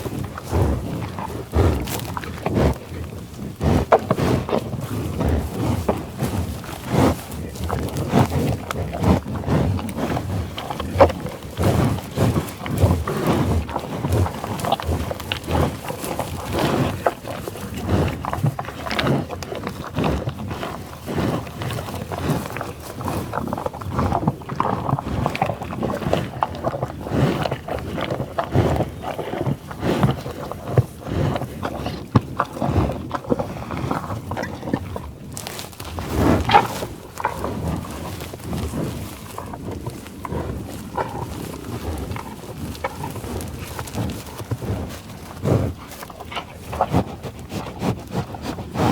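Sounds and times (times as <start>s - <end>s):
buffalo growling and lowing: 0.0s - 48.9s.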